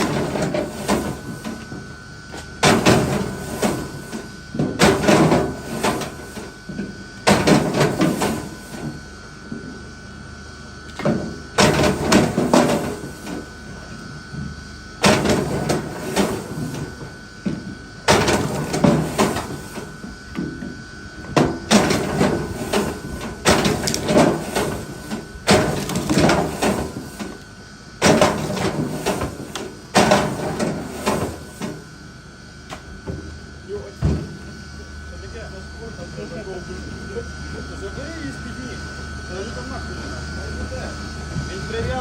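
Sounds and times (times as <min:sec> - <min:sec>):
faint steady whine: 0:00.0 - 0:42.0.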